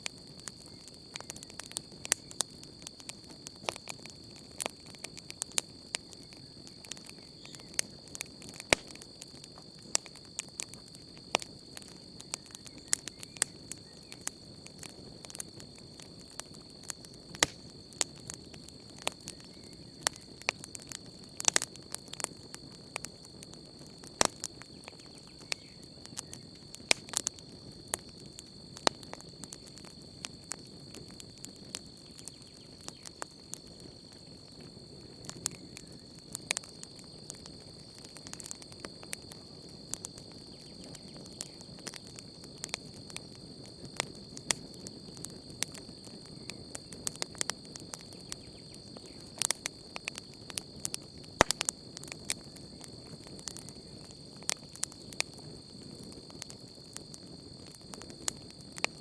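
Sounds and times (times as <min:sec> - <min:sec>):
campfire crackling: 0:00.0 - 0:59.0
insects chirring: 0:00.0 - 0:59.0.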